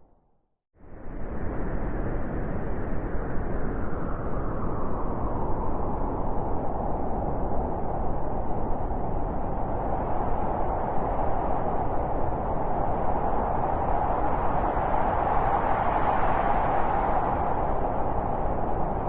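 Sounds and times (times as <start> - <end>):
blizzard wind blowing: 0.8 - 19.0.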